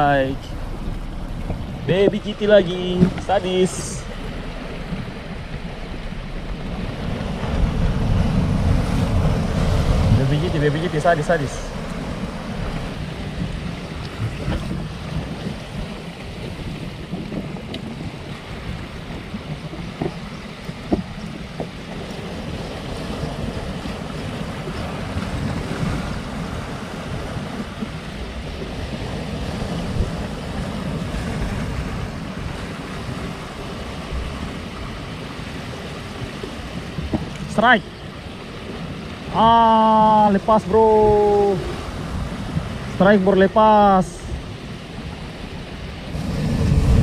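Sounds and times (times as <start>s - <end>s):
wind buffeting microphone: 0.0s - 43.2s, 43.8s - 47.0s
surf washing over rocks: 0.0s - 47.0s.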